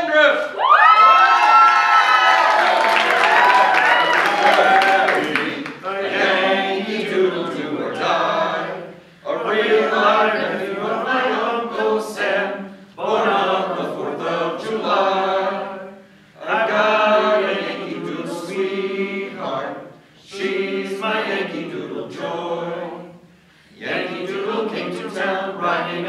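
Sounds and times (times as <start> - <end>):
group singing unaccompanied: 3.2 - 26.0.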